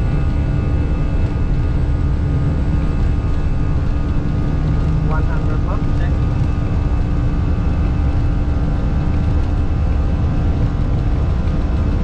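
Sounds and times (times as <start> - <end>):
constant hum: 0.0 - 12.0
engine and airflow rumble: 0.0 - 12.0.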